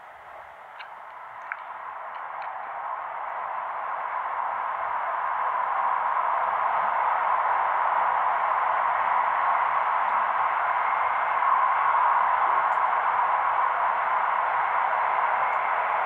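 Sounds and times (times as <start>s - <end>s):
train rushing through tunnel: 0.0s - 16.0s.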